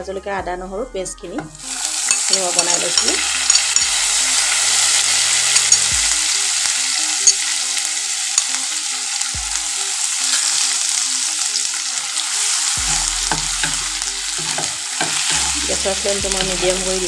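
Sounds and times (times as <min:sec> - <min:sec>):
steel spoon stirring in wok: 0:01.4 - 0:08.6, 0:09.8 - 0:17.0
food sizzling in hot oil: 0:01.4 - 0:17.0.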